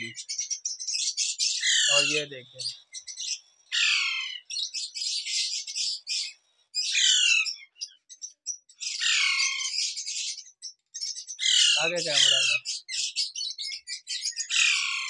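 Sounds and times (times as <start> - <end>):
parakeet chicks squawking: 0.0 - 15.0.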